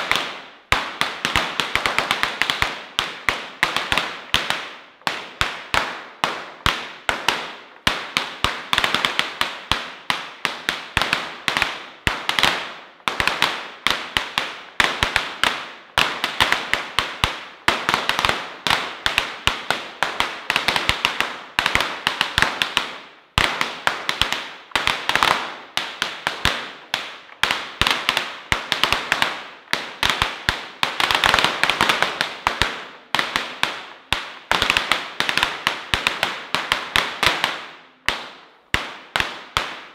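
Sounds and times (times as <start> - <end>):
firecrackers crackling in a hall: 0.0 - 39.9.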